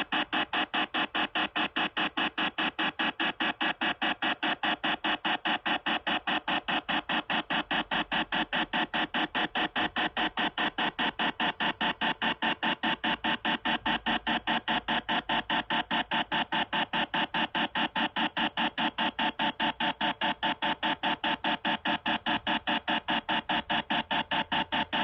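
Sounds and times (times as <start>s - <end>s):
rapid buzzy telephone pulses: 0.0s - 25.0s.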